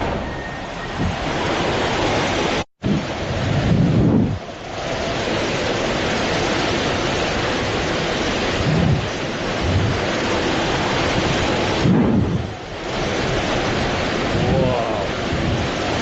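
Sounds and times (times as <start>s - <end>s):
driving rain: 0.0s - 16.0s
hurricane-force wind: 0.0s - 16.0s
wind gusts buffeting microphone: 0.0s - 16.0s.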